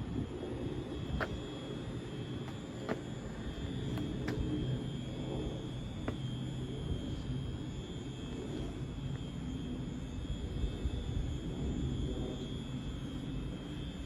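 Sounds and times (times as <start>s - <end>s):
electric train rumble and hum: 0.0s - 14.0s
faint high whine: 0.0s - 14.0s.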